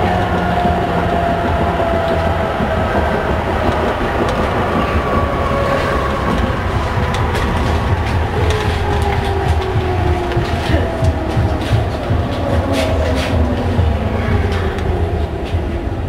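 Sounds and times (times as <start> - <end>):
train low rumble: 0.0 - 16.0
wheel clicks over rail joints: 0.0 - 16.0.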